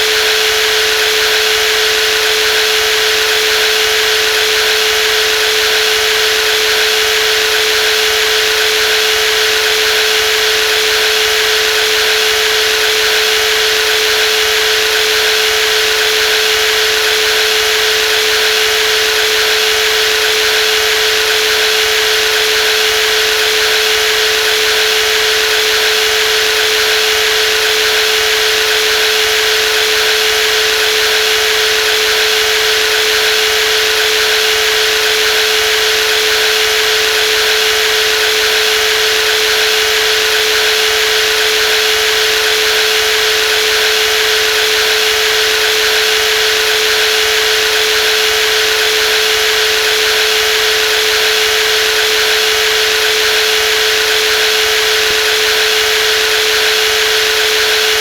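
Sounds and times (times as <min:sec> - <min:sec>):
jigsaw running: 0:00.0 - 0:58.0.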